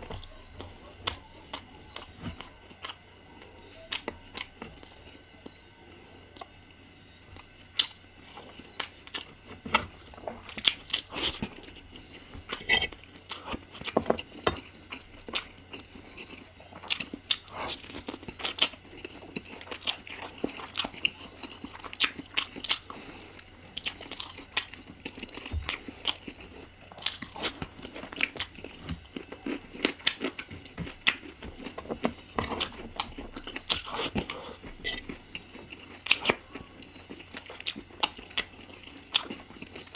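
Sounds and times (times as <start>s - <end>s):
wet chewing and mouth smacks: 7.4s - 39.9s.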